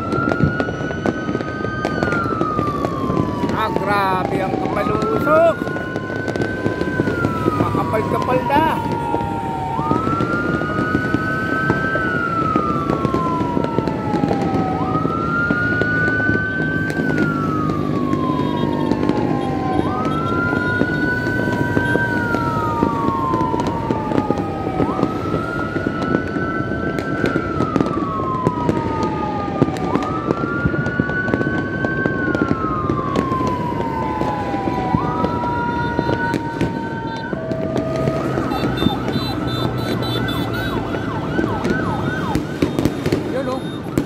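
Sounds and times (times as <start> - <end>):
city noise: 0.0 - 44.0
emergency vehicle siren wailing: 0.0 - 44.0.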